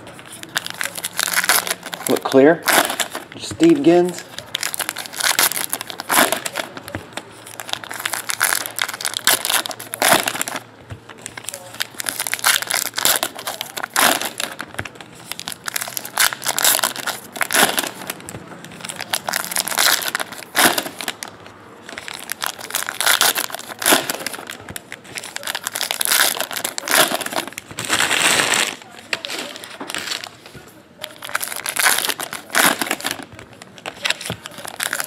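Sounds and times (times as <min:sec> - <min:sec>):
card pack wrappers crinkling: 0:00.0 - 0:35.0.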